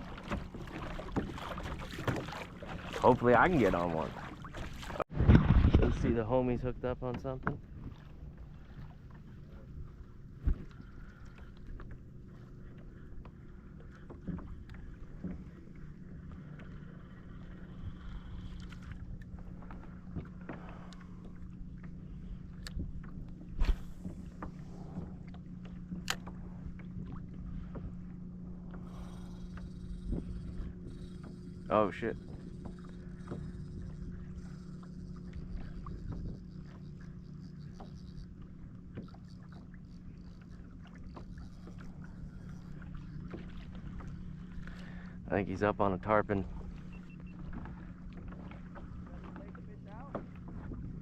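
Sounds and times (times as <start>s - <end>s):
low hum: 0.0s - 51.0s
water splashing against hull: 0.0s - 51.0s.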